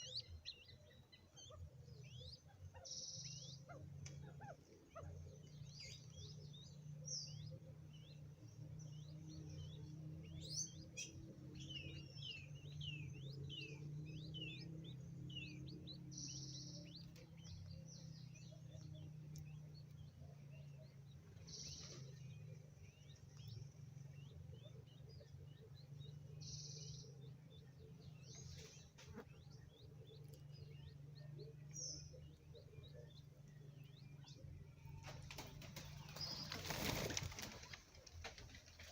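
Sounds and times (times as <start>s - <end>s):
steady low hum: 0.0s - 36.3s
birds chirping faintly: 0.0s - 38.9s.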